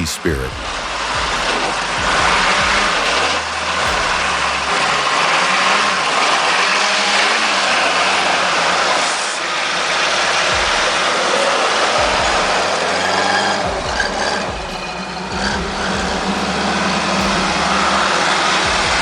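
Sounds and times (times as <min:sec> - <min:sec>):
loud steady rushing noise: 0:00.0 - 0:19.0
off-road vehicle engine revving: 0:00.0 - 0:19.0.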